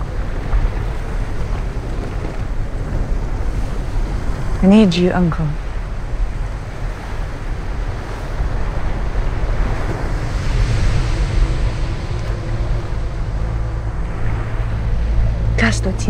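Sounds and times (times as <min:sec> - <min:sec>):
low wind rumble: 0:00.0 - 0:16.0
waves washing in: 0:00.0 - 0:16.0.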